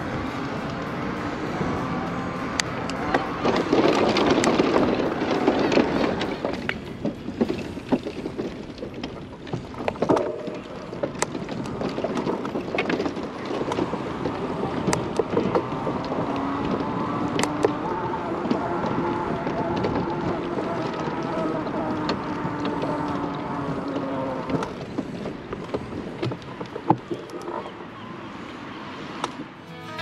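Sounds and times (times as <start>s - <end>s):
wind rushing over microphone: 0.0s - 27.1s
small rattles and clicks: 0.0s - 27.7s
bicycle rolling: 0.0s - 30.0s.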